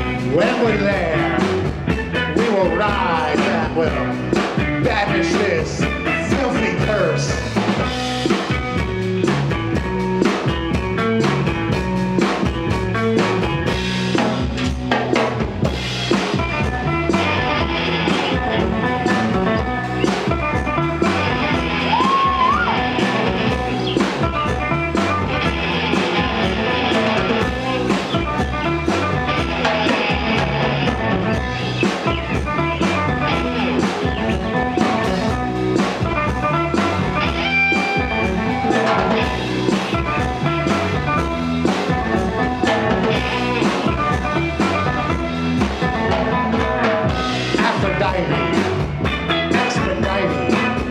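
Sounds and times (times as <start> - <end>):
bass guitar: 0.0 - 50.9
drum kit steady beat: 0.0 - 50.9
electric guitar: 0.0 - 50.9.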